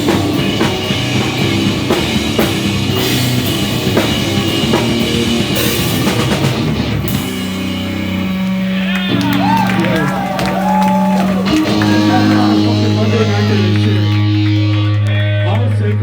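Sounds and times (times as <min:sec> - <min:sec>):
pounding drum kit: 0:00.0 - 0:15.1
live rock band playing: 0:00.0 - 0:15.5.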